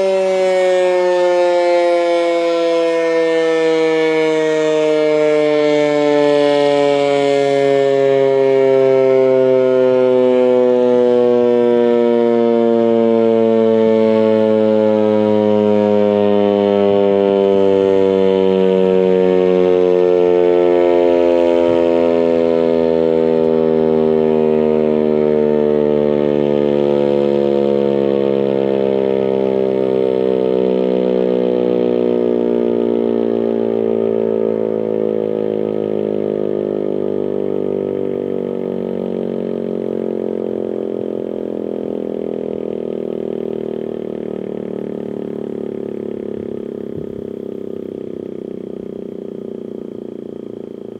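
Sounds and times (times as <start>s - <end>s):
warning siren winding down: 0.0s - 50.9s.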